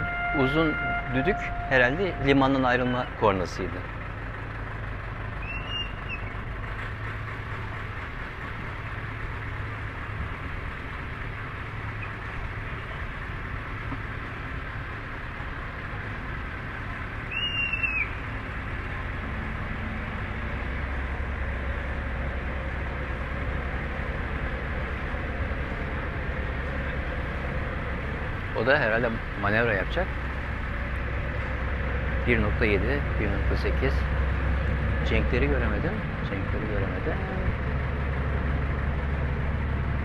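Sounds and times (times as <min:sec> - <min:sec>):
boat engine rumbling: 0:00.0 - 0:40.0.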